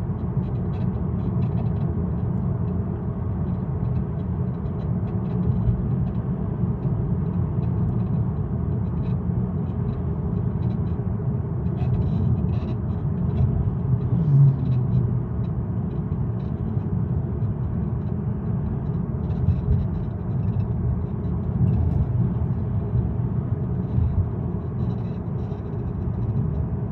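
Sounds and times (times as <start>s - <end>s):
car engine rumble: 0.0s - 26.9s.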